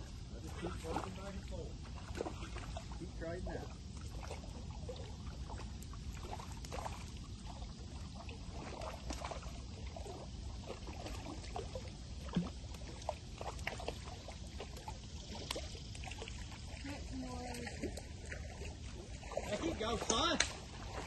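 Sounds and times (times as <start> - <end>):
river water splashing: 0.0 - 21.0
steady low rumble: 0.0 - 21.0.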